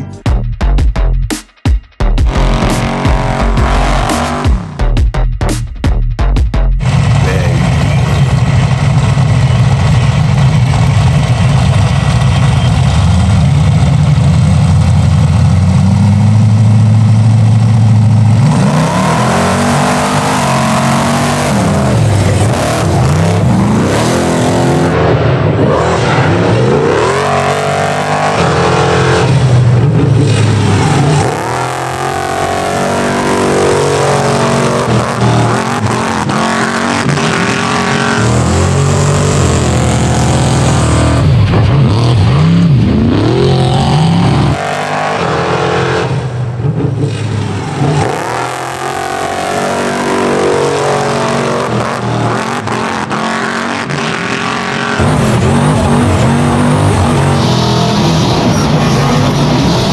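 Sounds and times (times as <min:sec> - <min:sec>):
off-road engines revving: 0:02.2 - 0:04.9, 0:06.8 - 0:59.9.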